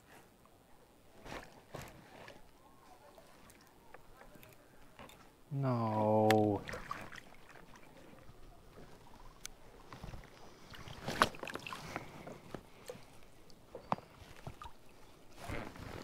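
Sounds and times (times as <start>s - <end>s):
water sounds: 1.1s - 16.0s.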